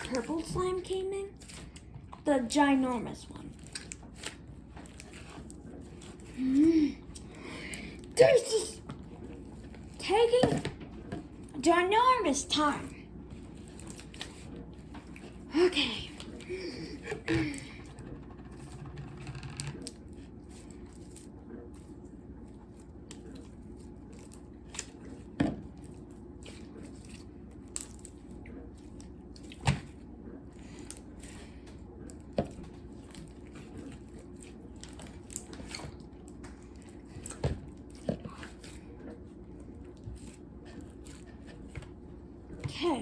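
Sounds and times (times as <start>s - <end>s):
low steady hum: 0.0s - 43.0s
slime being stirred: 0.0s - 43.0s.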